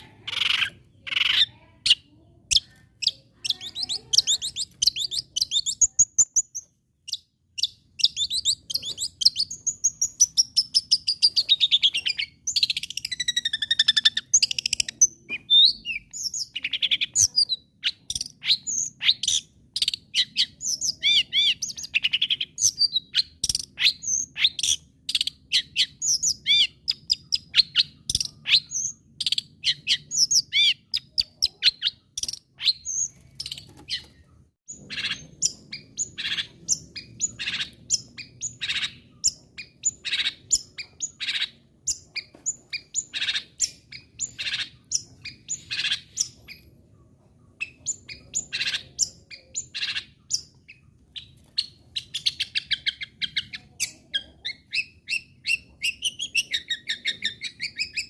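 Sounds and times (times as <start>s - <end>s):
bird song chirps and trills: 0.0s - 58.0s.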